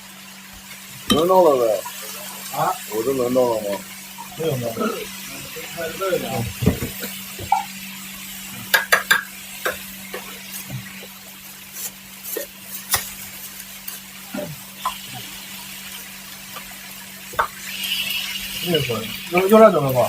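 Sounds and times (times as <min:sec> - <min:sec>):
faint sizzling: 0:00.0 - 0:20.0.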